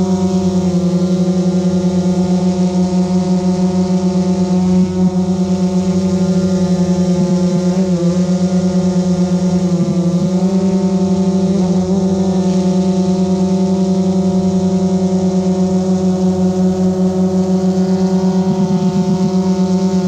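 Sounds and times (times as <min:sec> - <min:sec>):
drone propellers humming: 0:00.0 - 0:20.0.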